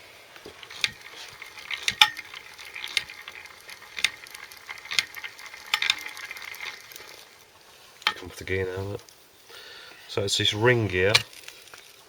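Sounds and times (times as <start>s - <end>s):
gears rattling metallically: 0.4s - 9.0s, 10.7s - 12.0s.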